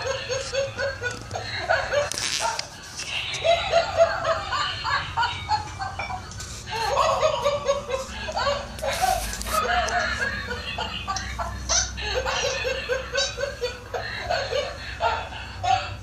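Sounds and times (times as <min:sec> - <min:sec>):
toy monkey laughing: 0:00.0 - 0:16.0.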